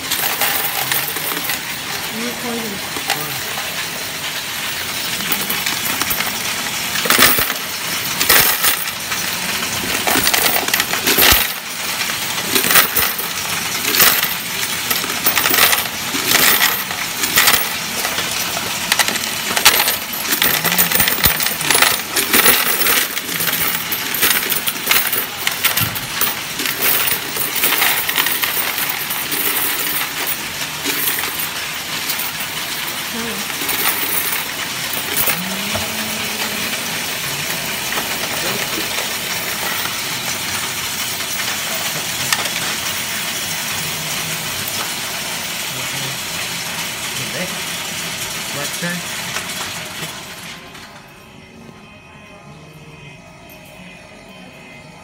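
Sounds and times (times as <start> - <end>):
coins clattering into tray: 0.0 - 50.3.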